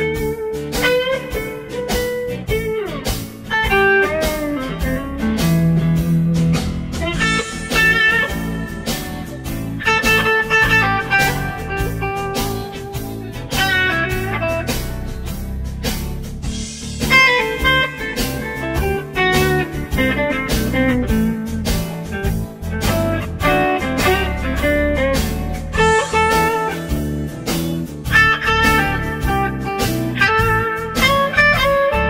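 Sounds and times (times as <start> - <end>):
blues guitar music: 0.0 - 32.0.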